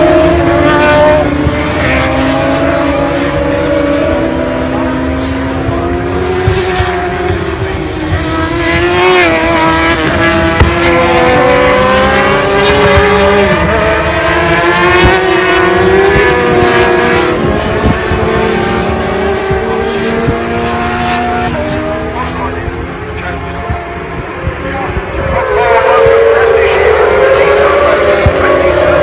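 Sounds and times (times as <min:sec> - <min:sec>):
racing motorcycles passing: 0:00.0 - 0:29.0.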